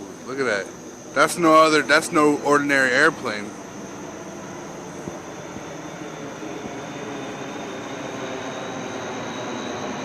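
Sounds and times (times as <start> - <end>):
jet aircraft flying overhead: 0.0 - 10.0.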